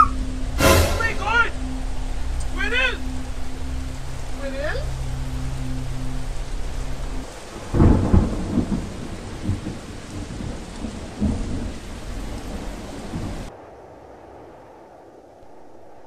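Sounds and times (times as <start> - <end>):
thunder rumbling: 0.0 - 14.7
steady rain: 0.0 - 16.0.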